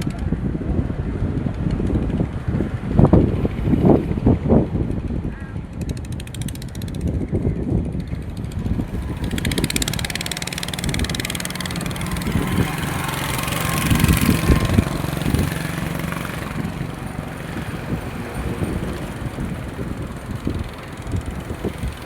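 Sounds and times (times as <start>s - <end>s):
vehicle engine passing by: 0.0s - 5.2s, 8.0s - 22.0s
wind: 0.0s - 22.0s.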